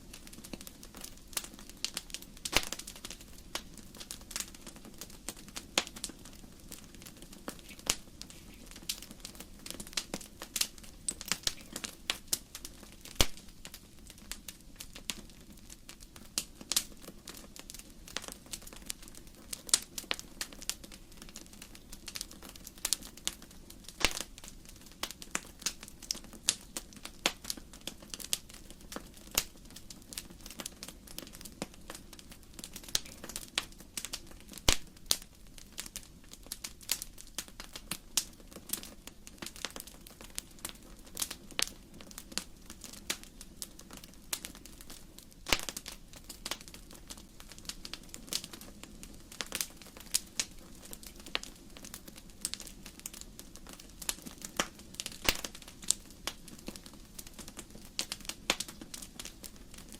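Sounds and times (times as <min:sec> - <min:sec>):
firewood crackling: 0:00.0 - 0:59.9
low rumble of fire: 0:00.0 - 0:59.9
loud pops from fire: 0:00.1 - 0:59.9.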